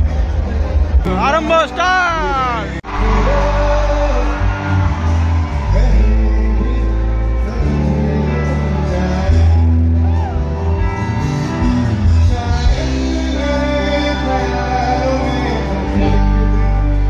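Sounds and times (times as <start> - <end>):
electric guitars: 0.0 - 17.0
heavy bass: 0.0 - 17.0
keyboards: 0.0 - 17.0
person singing: 1.1 - 10.6, 11.6 - 17.0.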